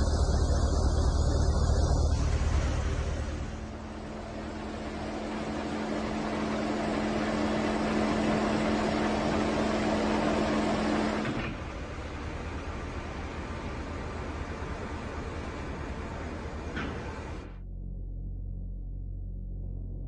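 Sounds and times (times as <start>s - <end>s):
engine humming: 0.0s - 18.3s.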